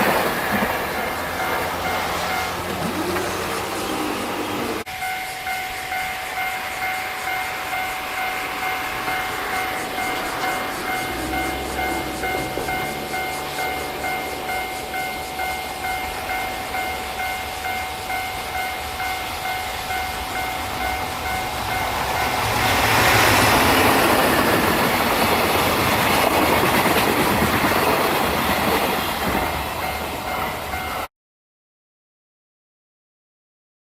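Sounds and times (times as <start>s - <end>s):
level-crossing alarm ringing: 0.0s - 31.1s
train passing rumble: 0.0s - 31.1s.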